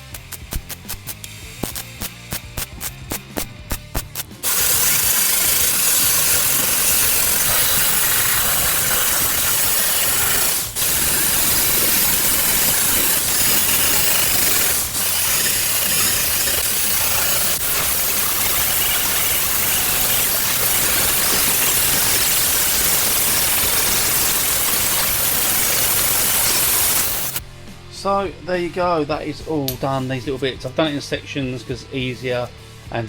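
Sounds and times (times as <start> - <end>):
hiss of continuous welding: 0.0 - 27.4
welding tack bursts: 0.0 - 27.4.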